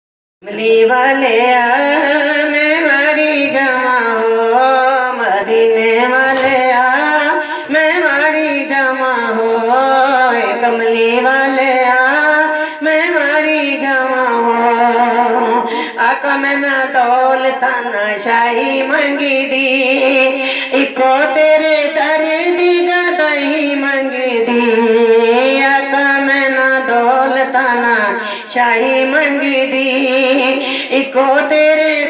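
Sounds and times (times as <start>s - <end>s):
woman singing into a microphone: 0.4s - 32.0s.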